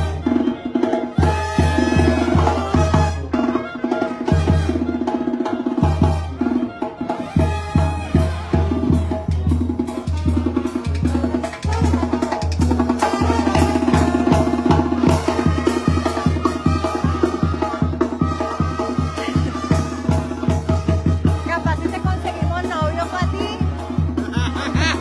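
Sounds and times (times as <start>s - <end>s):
brass band playing: 0.0s - 25.0s
drums: 0.0s - 25.0s.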